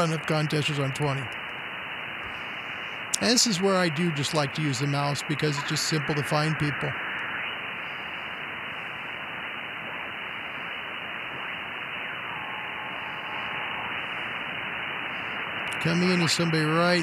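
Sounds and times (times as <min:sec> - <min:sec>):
faint steady whistles: 0:00.0 - 0:17.0
radio receiver hiss: 0:00.0 - 0:17.0
faint radio signals sliding in pitch: 0:02.2 - 0:17.0.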